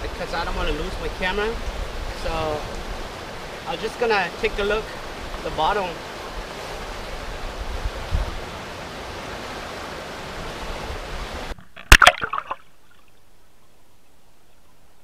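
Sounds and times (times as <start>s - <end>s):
river rushing: 0.0s - 12.4s.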